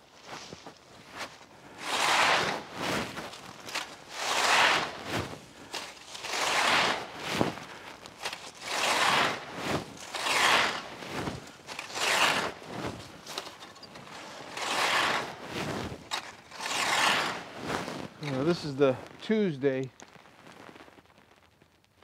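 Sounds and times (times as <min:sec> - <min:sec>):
rake rustling dry leaves: 0:00.0 - 0:19.8.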